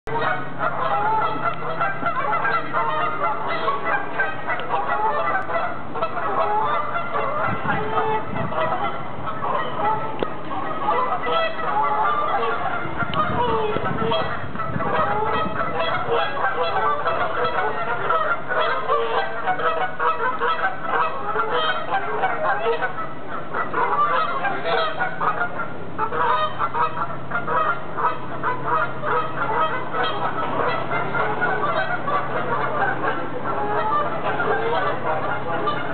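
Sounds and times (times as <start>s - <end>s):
geese honking: 0.1s - 35.9s.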